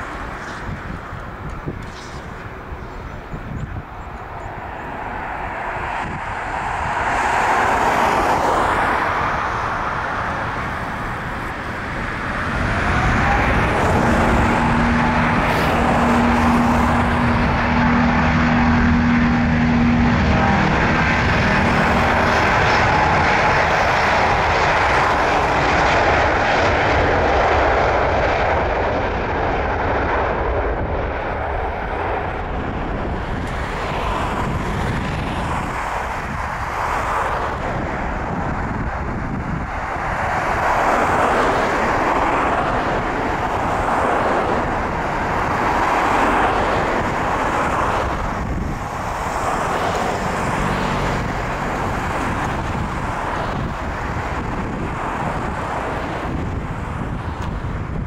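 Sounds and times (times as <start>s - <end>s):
jet engines at takeoff power: 0.0s - 58.0s.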